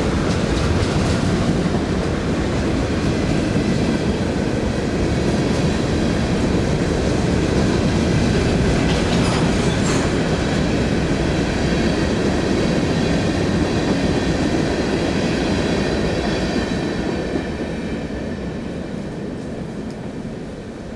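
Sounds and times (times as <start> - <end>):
train cars rolling by: 0.0 - 18.1.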